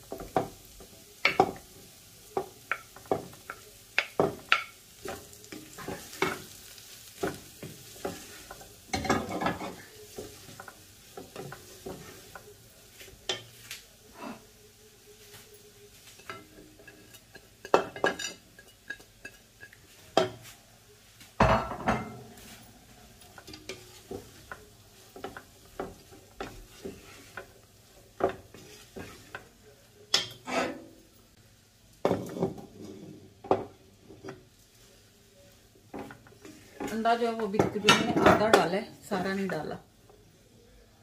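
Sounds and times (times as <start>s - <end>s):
spatula knocking and scraping wok: 0.0s - 13.8s, 15.1s - 20.6s, 21.3s - 31.0s, 32.0s - 34.6s, 35.9s - 39.7s
faint sizzle: 0.0s - 41.0s.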